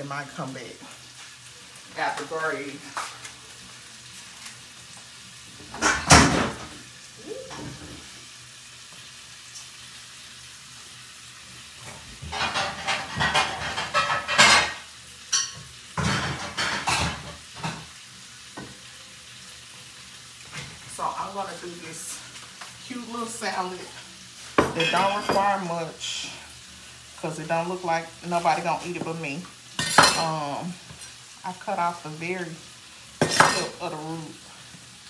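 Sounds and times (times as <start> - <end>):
bacon sizzling in a frying pan: 0.0 - 35.0.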